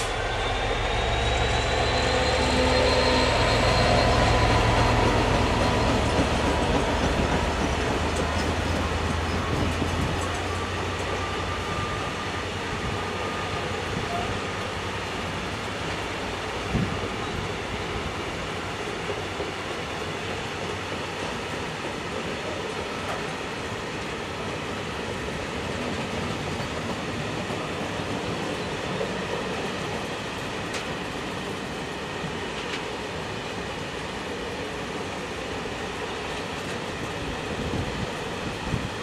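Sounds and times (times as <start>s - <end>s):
freight train wheels on rails: 0.0s - 39.0s.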